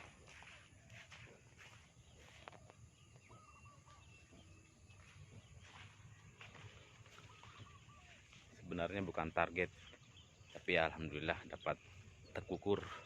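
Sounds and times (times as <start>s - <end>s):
distant birds chirping: 0.0s - 13.0s.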